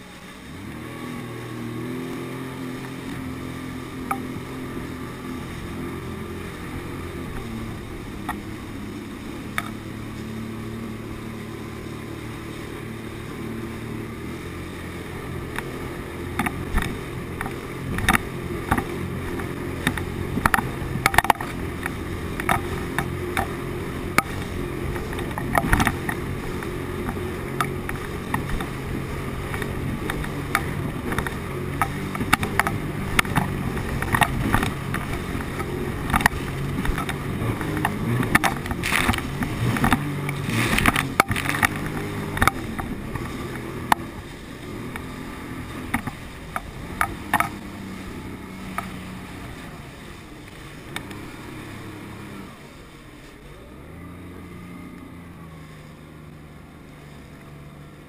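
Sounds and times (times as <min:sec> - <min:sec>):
personal watercraft engine drone: 0:00.0 - 0:58.0
water slapping against hull: 0:00.3 - 0:58.0.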